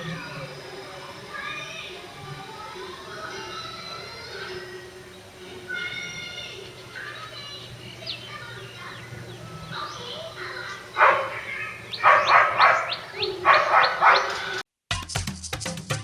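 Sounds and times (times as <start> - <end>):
birds chirping: 0.0 - 14.6
loud harsh bird calls: 0.0 - 14.6.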